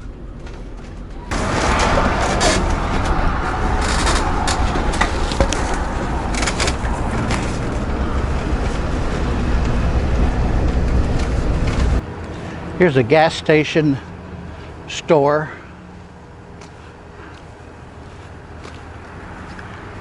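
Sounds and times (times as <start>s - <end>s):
vehicle road and engine rumble: 0.0s - 20.0s.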